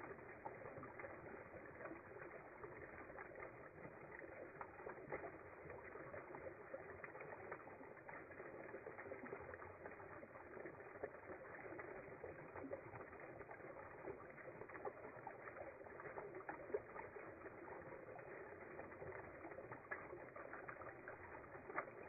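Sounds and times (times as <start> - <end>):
water trickling over rocks: 0.0 - 22.0.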